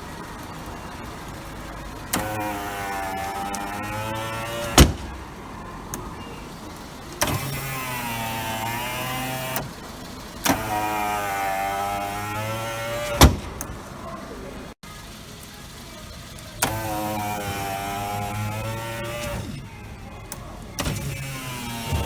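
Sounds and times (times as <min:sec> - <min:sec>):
window motor click: 0:00.0 - 0:14.0, 0:16.6 - 0:22.0
power window motor whining: 0:00.0 - 0:14.1, 0:16.3 - 0:22.0.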